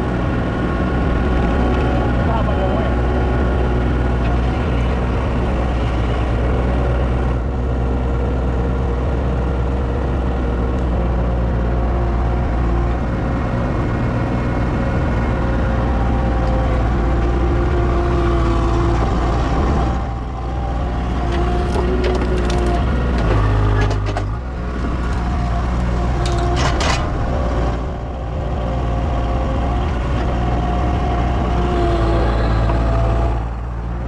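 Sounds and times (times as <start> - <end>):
large engine humming: 0.0 - 34.0.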